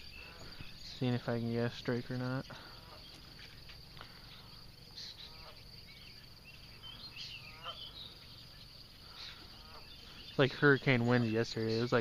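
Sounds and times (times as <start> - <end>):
insects chirring: 0.0 - 12.0
short bird calls: 0.0 - 12.0.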